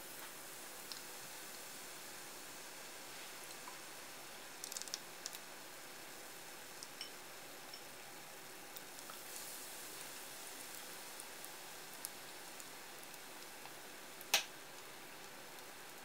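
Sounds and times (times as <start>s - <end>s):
deep-frying sizzling hiss: 0.0s - 16.0s.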